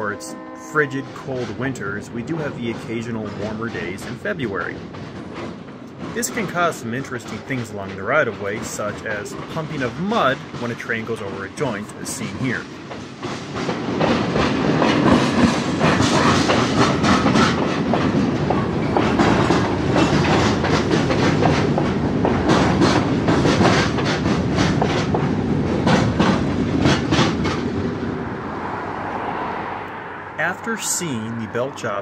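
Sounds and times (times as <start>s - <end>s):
freight train rolling rumble: 0.0s - 32.0s
wheels clacking on rail joints: 0.8s - 29.4s.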